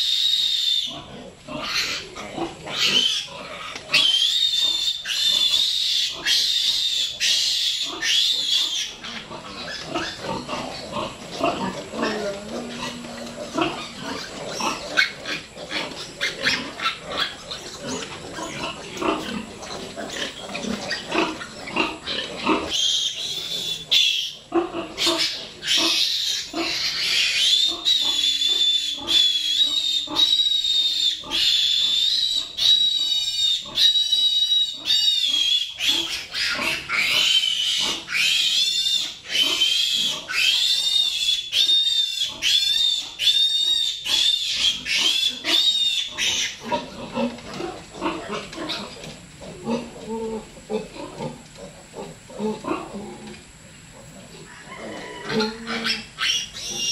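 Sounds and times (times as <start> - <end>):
piglet squealing: 2.7 - 47.3, 54.5 - 56.9.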